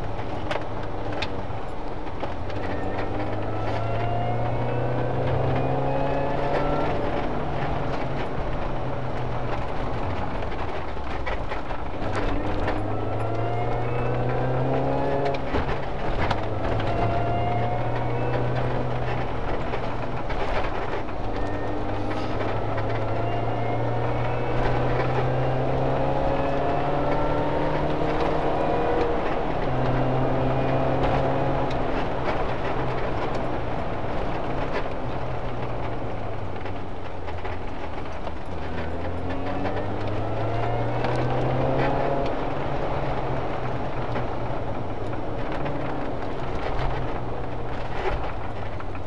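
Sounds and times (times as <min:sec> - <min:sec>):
car engine revving under load: 0:00.0 - 0:49.0
road and tyre noise: 0:00.0 - 0:49.0.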